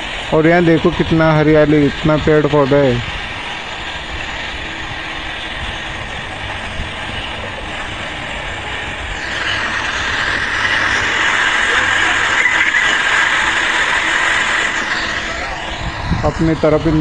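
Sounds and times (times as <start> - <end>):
passenger train running: 0.0 - 17.0.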